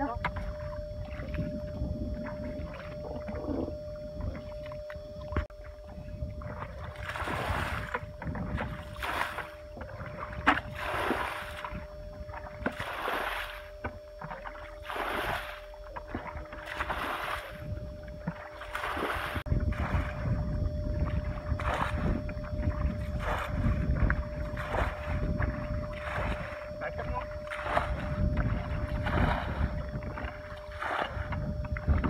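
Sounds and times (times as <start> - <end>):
faint steady hum: 0.0 - 32.0
low rumble: 0.0 - 32.0
water splashing and sloshing: 0.0 - 32.0.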